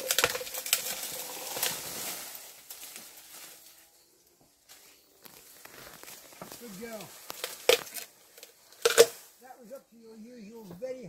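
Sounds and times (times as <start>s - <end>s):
bamboo leaves rustling: 0.0s - 10.7s.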